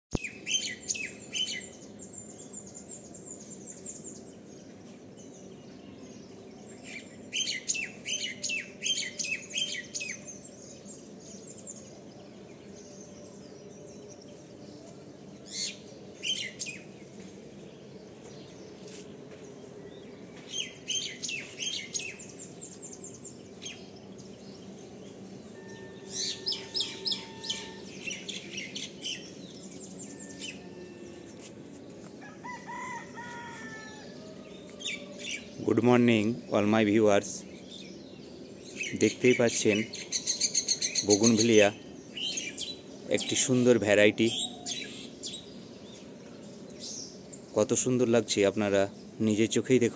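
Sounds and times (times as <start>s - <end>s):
small birds chirping: 0.1s - 49.9s
low background hum: 0.2s - 49.9s.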